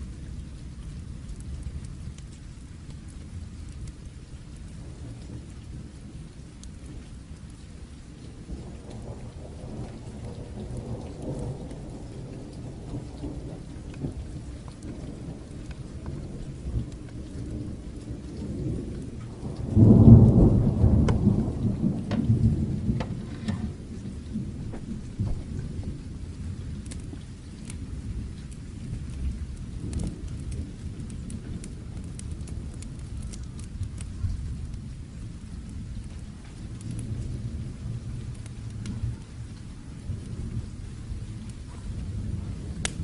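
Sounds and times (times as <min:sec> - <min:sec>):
fire crackling: 0:00.0 - 0:43.0
steady rain: 0:00.0 - 0:43.0
thunder rumbling: 0:03.2 - 0:43.0.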